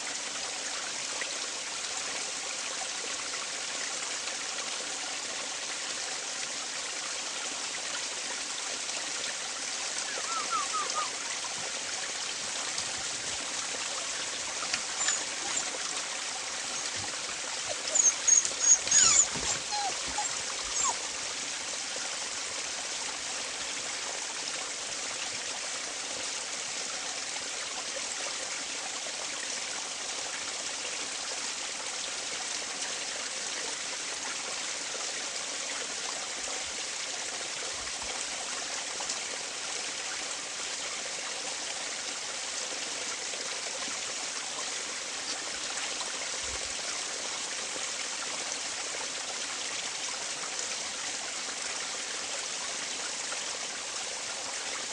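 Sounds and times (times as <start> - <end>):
stream flowing water: 0.0 - 54.9.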